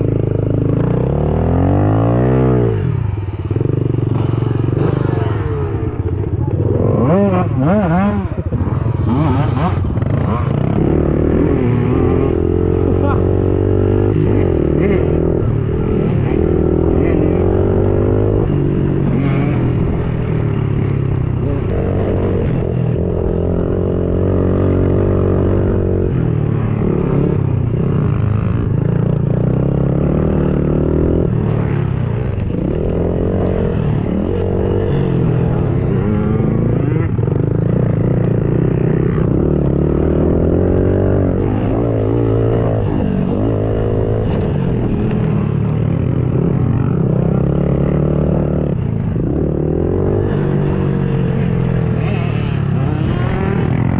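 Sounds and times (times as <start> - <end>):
pit bike engine revving: 0.0 - 53.9.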